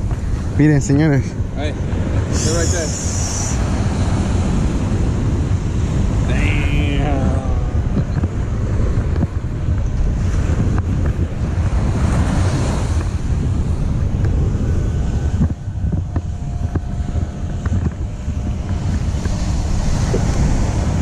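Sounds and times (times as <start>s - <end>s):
ocean surf on beach: 0.0s - 21.0s
wind buffeting microphone: 0.0s - 21.0s.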